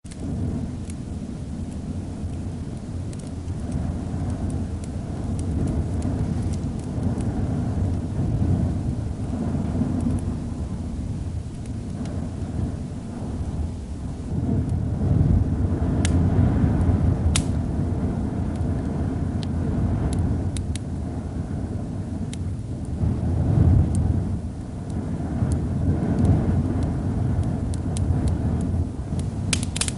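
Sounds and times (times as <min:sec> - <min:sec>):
storm wind rumbling: 0:00.0 - 0:29.9
wood fire crackling and popping: 0:00.0 - 0:29.9.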